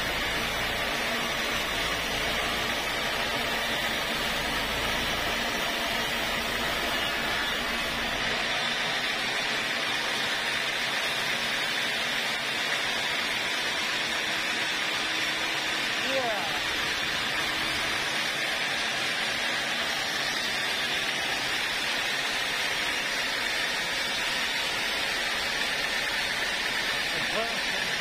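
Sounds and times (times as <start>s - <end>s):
band saw blade cutting log: 0.0s - 28.0s.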